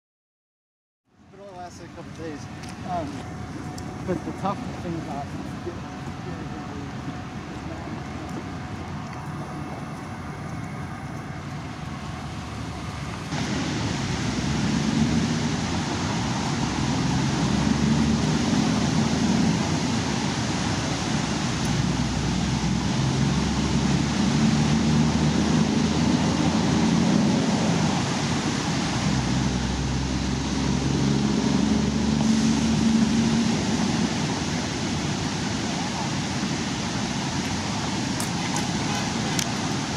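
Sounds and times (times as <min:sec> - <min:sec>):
choppy river water: 0:01.1 - 0:39.9
low rumble: 0:02.2 - 0:35.0
wind on microphone: 0:02.5 - 0:39.9.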